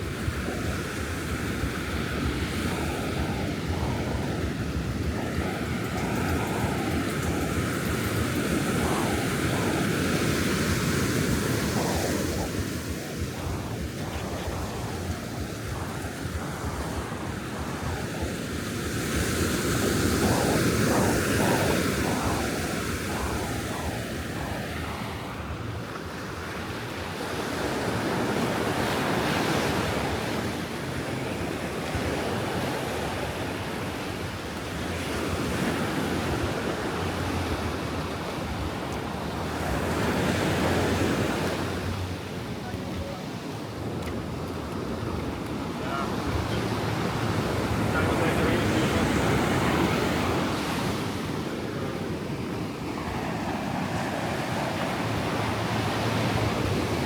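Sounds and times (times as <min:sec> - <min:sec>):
ocean surf on sandy beach: 0:00.0 - 0:57.0
wind on microphone: 0:00.0 - 0:57.0.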